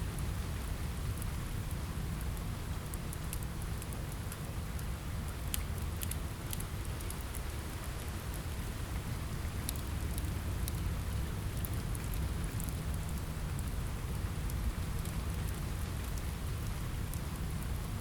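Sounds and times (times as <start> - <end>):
rain: 0.0 - 18.0
wood fire crackling: 0.1 - 18.0.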